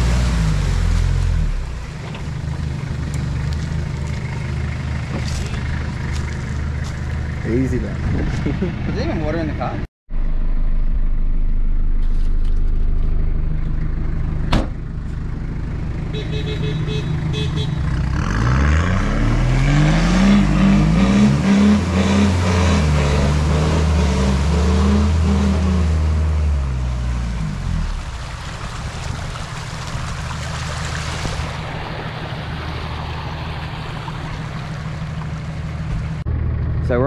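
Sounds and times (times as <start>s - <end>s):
diesel engine revving: 0.0s - 12.0s, 12.8s - 37.0s.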